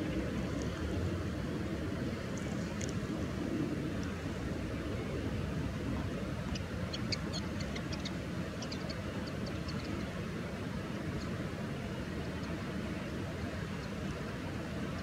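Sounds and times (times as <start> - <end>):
low wind-like rumble: 0.0 - 15.0.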